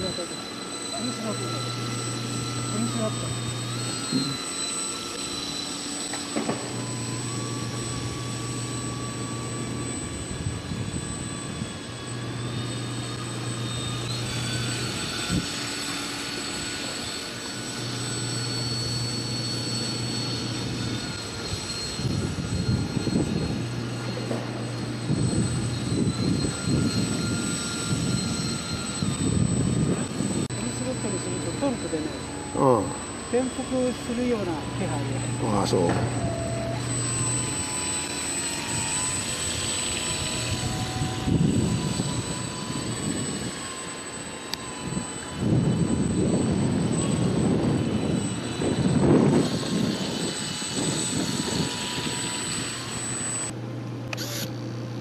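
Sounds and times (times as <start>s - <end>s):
electric motor whine: 0.0s - 55.0s.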